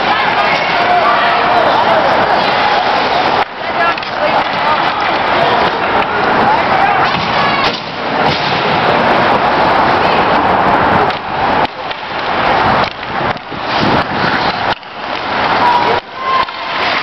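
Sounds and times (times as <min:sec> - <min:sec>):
skates scraping ice: 0:00.0 - 0:17.0
sticks and puck clacking: 0:00.0 - 0:17.0.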